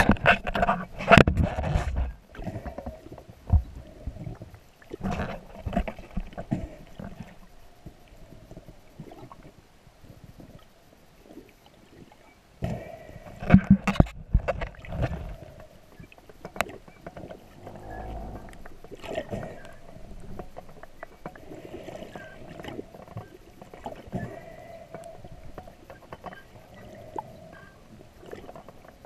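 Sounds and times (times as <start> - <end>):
knocks and clicks underwater: 0.0 - 10.6, 12.6 - 27.7
underwater gurgling and sloshing: 0.0 - 29.0.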